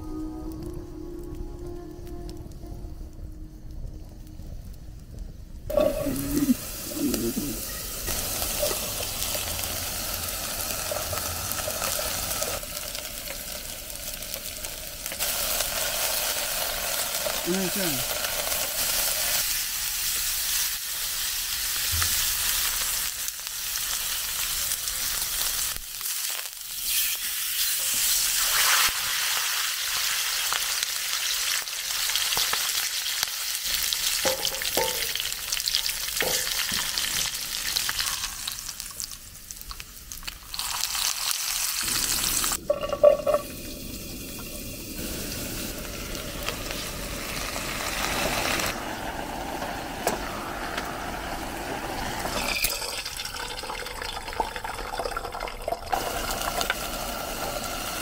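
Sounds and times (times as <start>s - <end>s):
meat and vegetables sizzling in oil: 3.6s - 54.5s, 55.6s - 58.0s.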